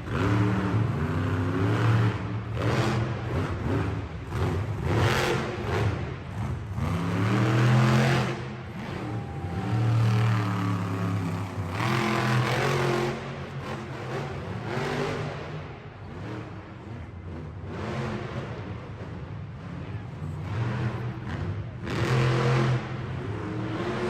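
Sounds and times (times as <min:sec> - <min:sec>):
truck engine revving hard: 0:00.0 - 0:18.8, 0:20.4 - 0:24.0.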